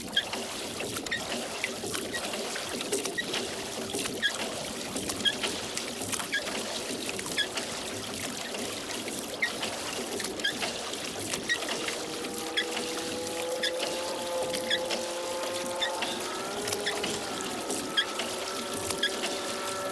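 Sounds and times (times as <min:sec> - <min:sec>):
oars splashing water: 0:00.0 - 0:19.9
water drips plinking: 0:00.0 - 0:19.9.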